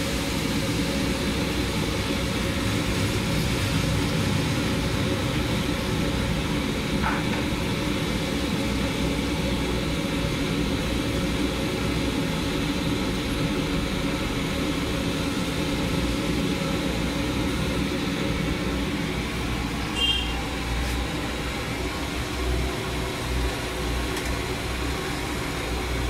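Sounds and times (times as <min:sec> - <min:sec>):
chicken deep-frying in bubbling oil: 0:00.0 - 0:26.0
street traffic rumble: 0:00.0 - 0:26.0.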